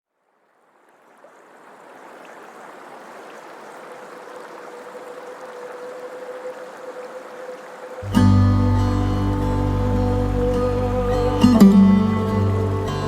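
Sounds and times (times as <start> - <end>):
rushing water: 0.1 - 13.0.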